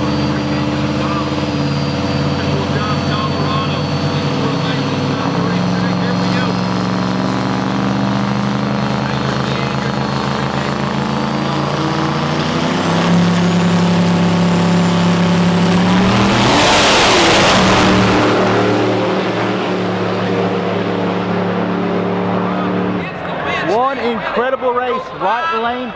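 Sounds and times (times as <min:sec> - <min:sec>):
loud rushing surge: 0:00.0 - 0:23.6
racing truck engine drone: 0:00.0 - 0:25.8.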